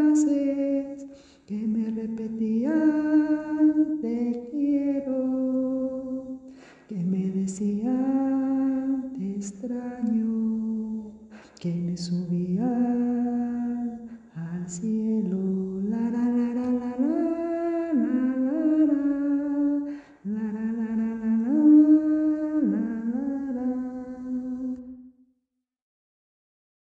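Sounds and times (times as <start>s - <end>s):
person humming a melody: 0.0s - 25.0s.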